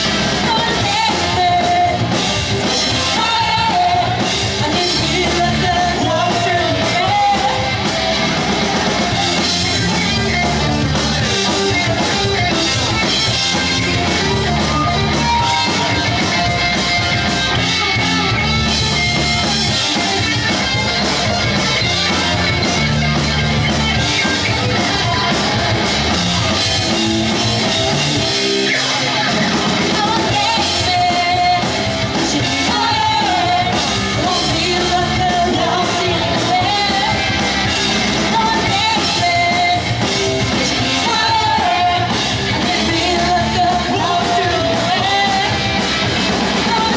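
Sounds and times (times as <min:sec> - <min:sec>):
live pop-punk band playing: 0:00.0 - 0:46.9.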